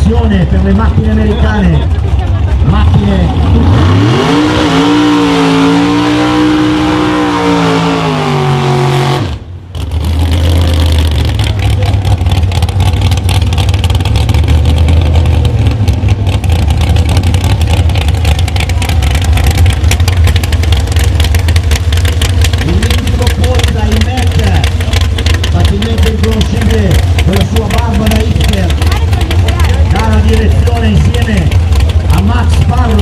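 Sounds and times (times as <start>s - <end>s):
truck engine idling loudly: 0.0s - 33.0s.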